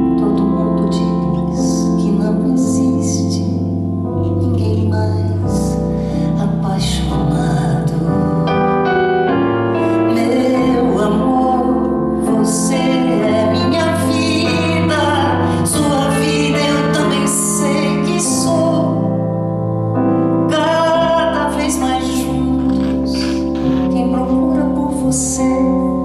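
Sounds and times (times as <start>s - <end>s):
woman singing a ballad: 0.0s - 8.7s, 9.8s - 19.4s, 20.3s - 26.0s
keyboard piano chords: 0.0s - 26.0s.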